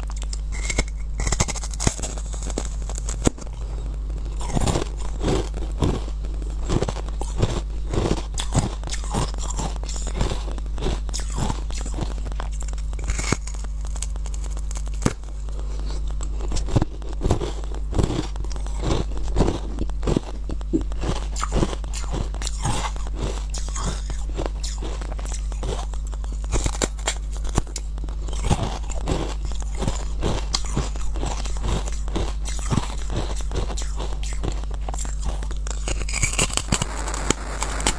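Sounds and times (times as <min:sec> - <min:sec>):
frozen honey crunching: 0:00.0 - 0:37.9
steady low hum: 0:00.0 - 0:37.9.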